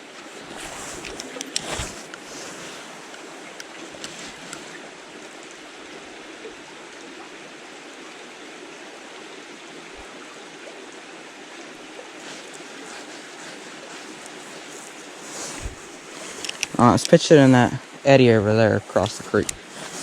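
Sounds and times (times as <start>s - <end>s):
creek running over rocks: 0.0s - 20.0s.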